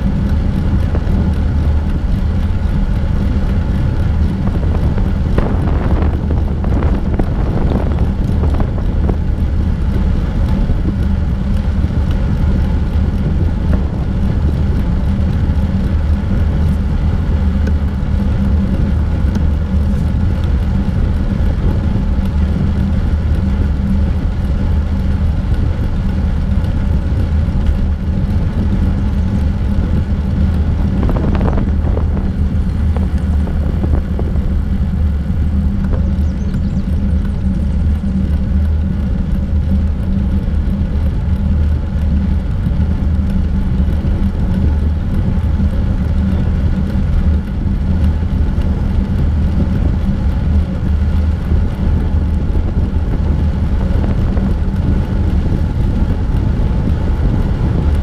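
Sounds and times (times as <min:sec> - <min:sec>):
bicycle tyres rumbling on asphalt: 0:00.0 - 0:58.0
wind buffeting microphone: 0:00.0 - 0:58.0.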